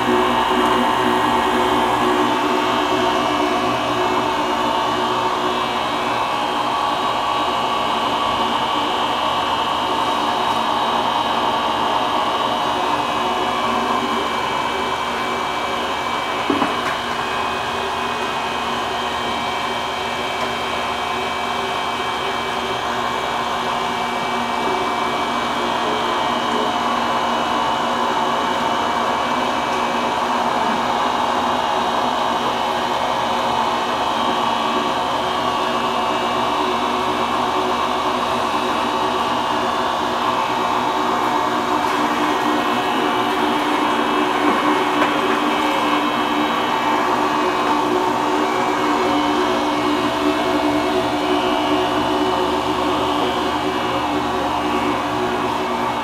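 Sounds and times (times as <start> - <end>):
fish grinder motor humming: 0.0 - 56.0.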